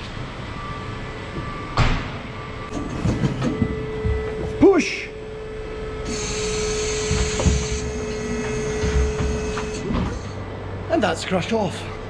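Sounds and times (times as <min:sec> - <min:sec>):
steady mechanical whine: 0:00.0 - 0:12.0.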